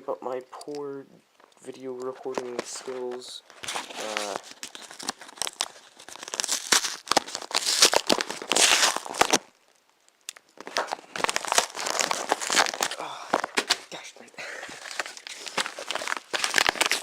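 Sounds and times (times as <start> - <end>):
packaging crinkling and tearing: 2.2 - 17.0.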